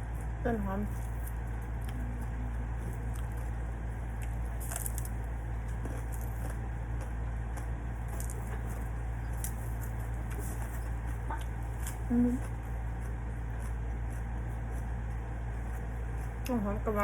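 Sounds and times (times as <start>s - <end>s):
person chewing with crunches: 0.0s - 16.6s
low steady hum: 0.0s - 17.0s.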